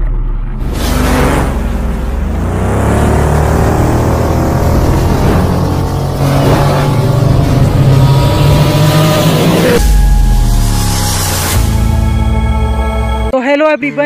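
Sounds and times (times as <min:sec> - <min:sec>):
deep bass: 0:00.0 - 0:13.3
futuristic motorbike engine revving: 0:00.5 - 0:11.9.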